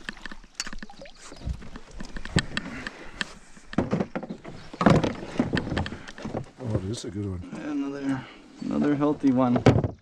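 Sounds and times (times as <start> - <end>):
clicks and knocks in boat: 0.0 - 7.7, 8.7 - 10.0.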